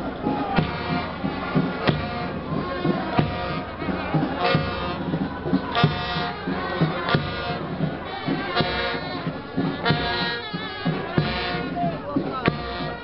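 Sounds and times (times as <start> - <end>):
crowd noise: 0.0 - 13.0
slow steady drum beat: 0.0 - 13.0
wind instruments playing funeral march: 0.0 - 13.0.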